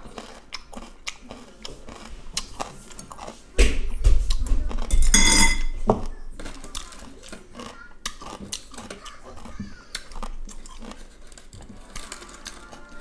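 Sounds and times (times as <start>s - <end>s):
person chewing food: 0.0s - 5.1s, 5.8s - 13.0s.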